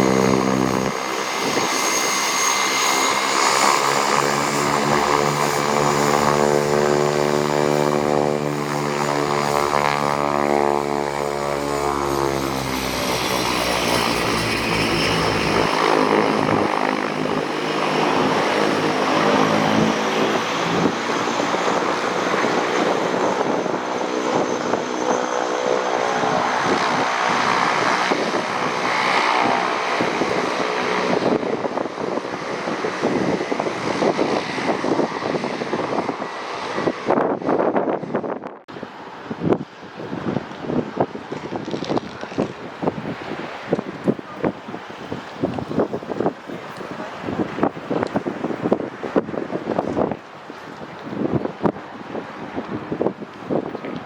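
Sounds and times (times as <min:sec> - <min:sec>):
propeller plane passing: 0:00.0 - 0:39.3, 0:40.3 - 0:54.0.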